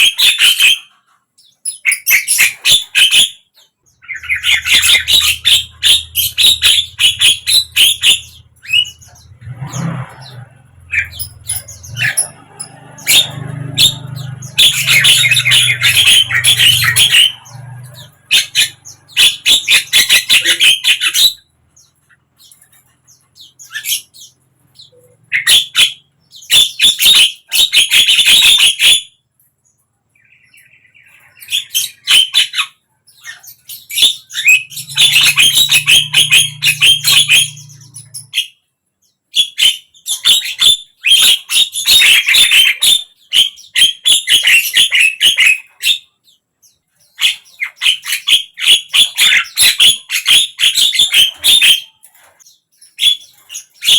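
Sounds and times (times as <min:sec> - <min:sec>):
bird chattering and squawking: 0:00.0 - 0:29.2, 0:30.2 - 0:38.7, 0:39.3 - 0:53.9.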